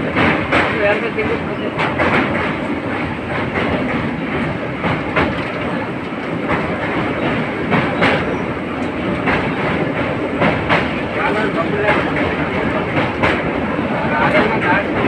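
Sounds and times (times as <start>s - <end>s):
train wheels rumbling on rail: 0.0s - 15.0s
wheels clacking over rail joints: 0.0s - 15.0s.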